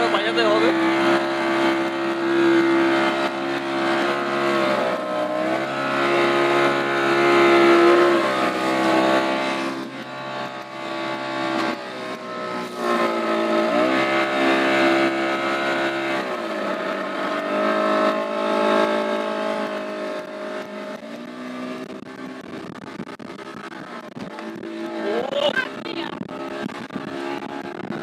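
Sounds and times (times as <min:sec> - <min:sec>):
speedboat engine running hard: 0:00.0 - 0:28.0.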